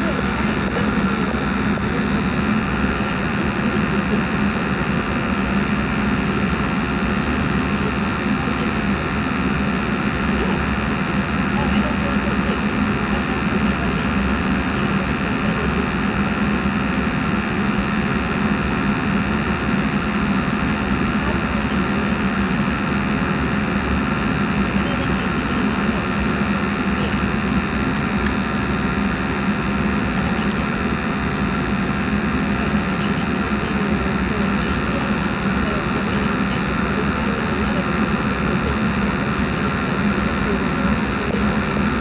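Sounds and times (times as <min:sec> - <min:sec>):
fan and burner drone: 0:00.0 - 0:42.0
low hum: 0:00.0 - 0:42.0.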